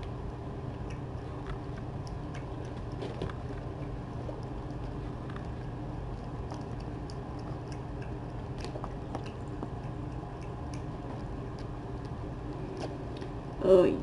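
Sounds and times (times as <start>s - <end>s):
cat chewing food: 0.0s - 13.6s
steady low hum: 0.0s - 14.0s.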